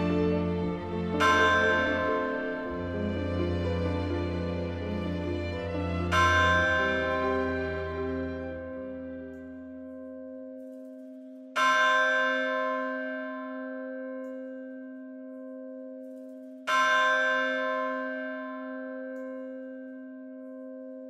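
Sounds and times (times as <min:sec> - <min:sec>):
church bell tolling: 0:00.0 - 0:21.0.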